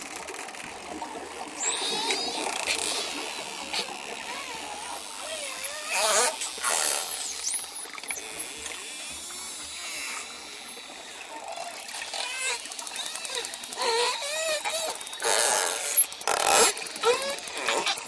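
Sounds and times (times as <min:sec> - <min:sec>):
dolphin buzzing click trains: 0:00.0 - 0:18.0
dolphins whistling: 0:01.6 - 0:18.0.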